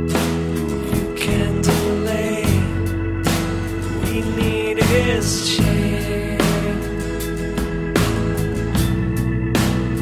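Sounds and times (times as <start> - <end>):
song with steady bass: 0.0 - 10.0.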